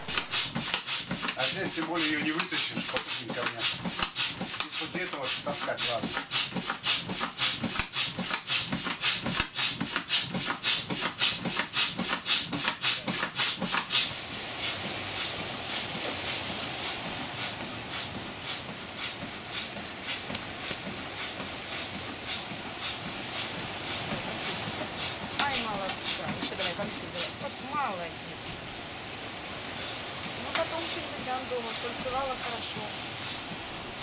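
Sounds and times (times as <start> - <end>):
fast rubbing strokes: 0.0 - 28.1, 29.6 - 34.0.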